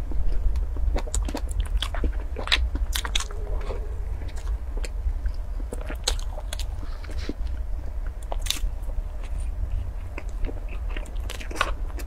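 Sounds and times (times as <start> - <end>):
mouth chewing cake: 0.0 - 12.0
steady low rumble: 0.0 - 12.0.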